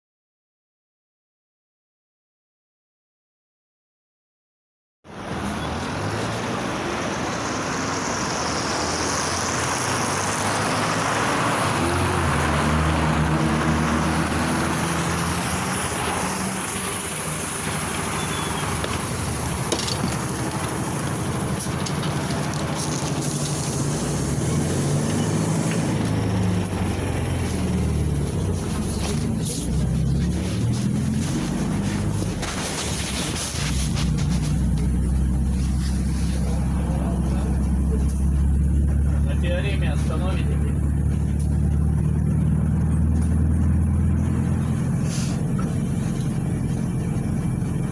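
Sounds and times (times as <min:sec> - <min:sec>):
road and tyre noise: 0:05.0 - 0:47.9
bus engine running: 0:05.1 - 0:47.9.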